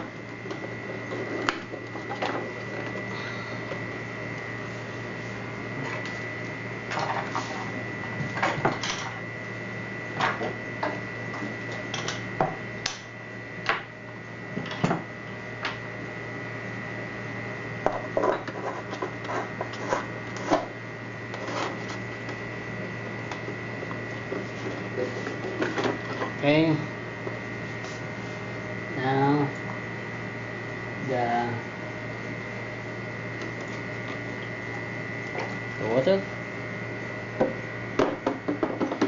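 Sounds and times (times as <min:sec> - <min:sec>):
thin high whine: 0:00.0 - 0:38.8
steady hum: 0:00.0 - 0:39.0.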